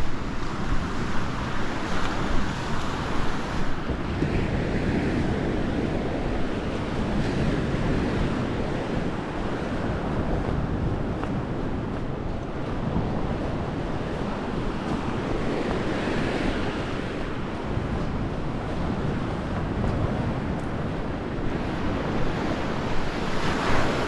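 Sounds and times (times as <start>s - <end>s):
sea surf washing onto shore: 0.0s - 24.0s
wind buffeting microphone: 0.0s - 24.0s.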